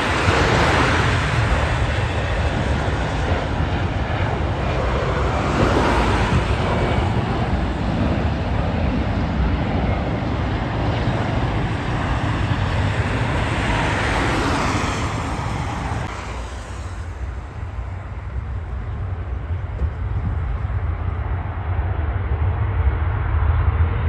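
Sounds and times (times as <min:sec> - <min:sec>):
jet airliner passing: 0:00.0 - 0:24.0.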